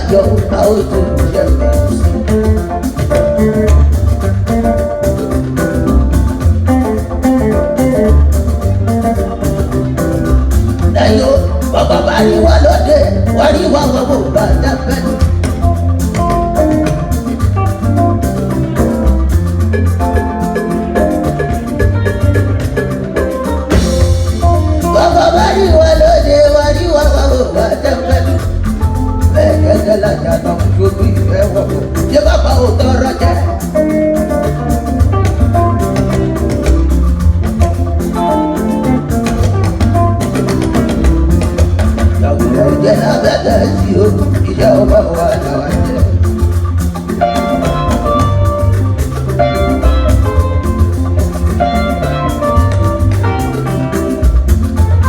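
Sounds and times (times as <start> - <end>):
drum and bass groove: 0.0 - 55.0
percussion beat: 0.0 - 55.0.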